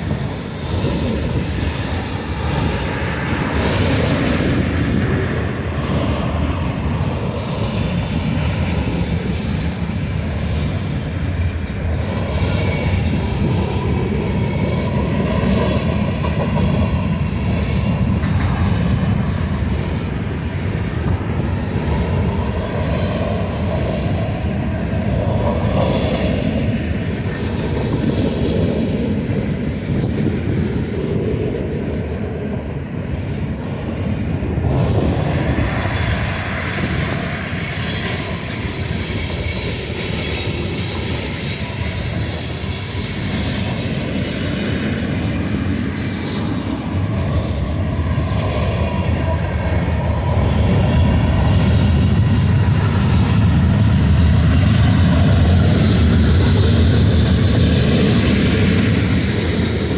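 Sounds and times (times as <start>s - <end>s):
train wheels rolling on rail: 0.0s - 59.9s.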